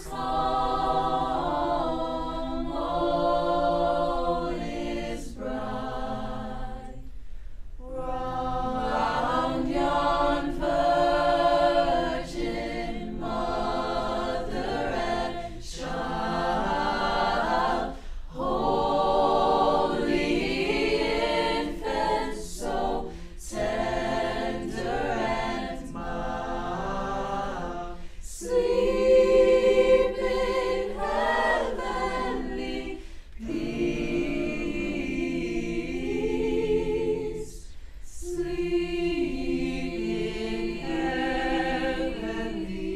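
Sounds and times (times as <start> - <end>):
choir singing a cappella: 0.0 - 42.9.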